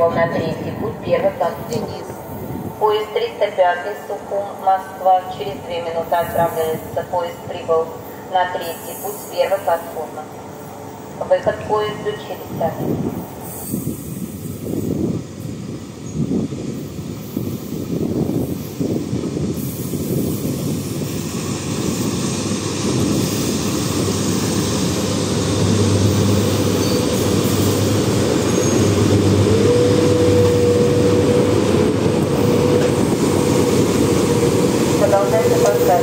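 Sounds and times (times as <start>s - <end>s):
train rumble and wheel noise: 0.0s - 36.0s.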